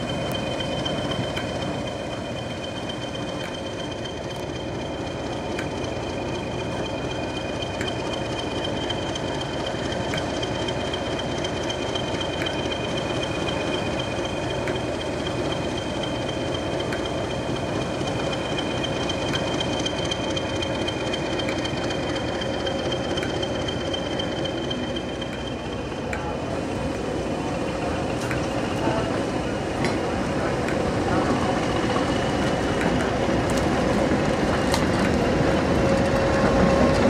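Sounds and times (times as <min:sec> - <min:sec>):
diesel locomotive engine rumble: 0:00.0 - 0:37.0
high-pitched whine: 0:00.0 - 0:37.0.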